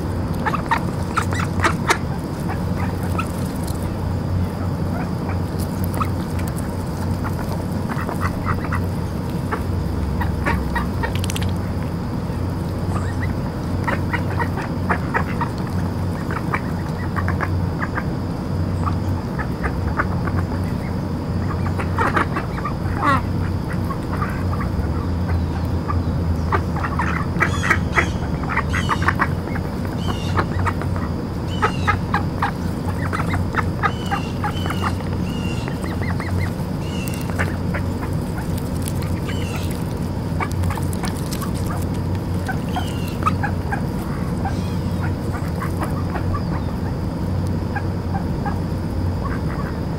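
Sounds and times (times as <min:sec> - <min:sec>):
ducks quacking softly: 0:00.3 - 0:18.2, 0:18.8 - 0:49.9.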